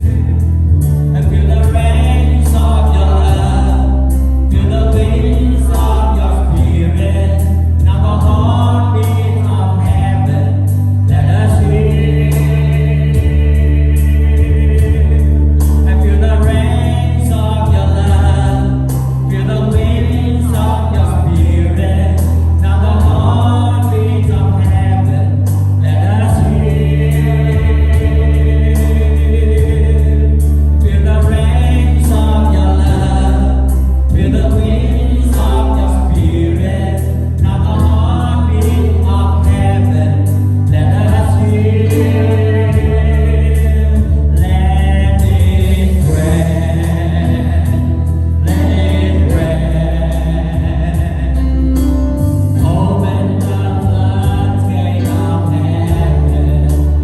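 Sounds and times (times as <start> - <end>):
bass accompaniment: 0.0 - 57.0
choir singing gospel: 0.0 - 57.0.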